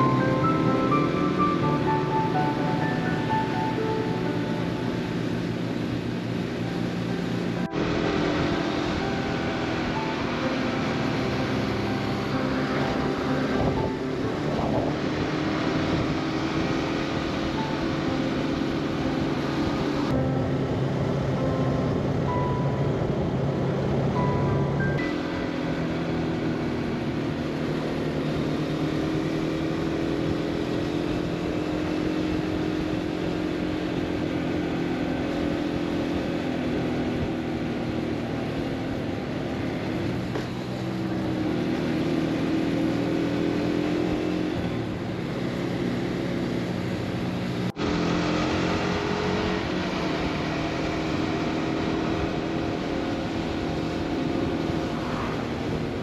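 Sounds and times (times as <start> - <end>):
motorcycle engine riding: 0.0 - 56.0
wind and road noise: 0.0 - 56.0.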